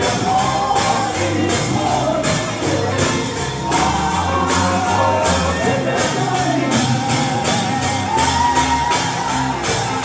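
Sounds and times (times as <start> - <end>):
gospel singing over a band: 0.0 - 10.0.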